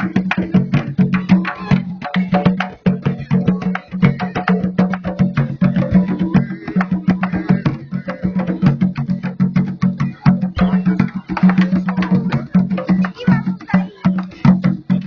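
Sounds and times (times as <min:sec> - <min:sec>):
hand drums fast rhythm: 0:00.0 - 0:15.0.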